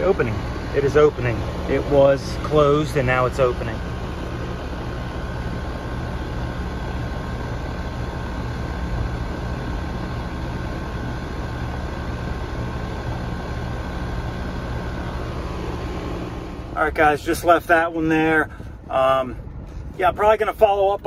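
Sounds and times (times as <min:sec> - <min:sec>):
faint steady whine: 0:00.0 - 0:21.0
heat pump hum: 0:00.0 - 0:21.0.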